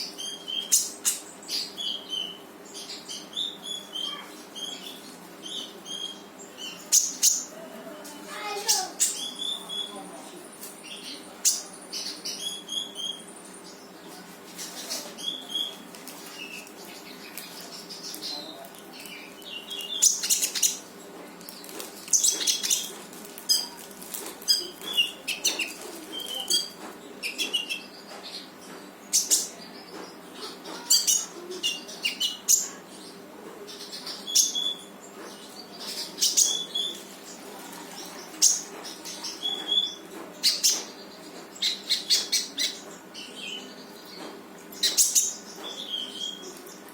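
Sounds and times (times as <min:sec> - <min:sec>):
bird chirping: 0:00.0 - 0:07.6, 0:08.3 - 0:23.8, 0:24.5 - 0:46.9.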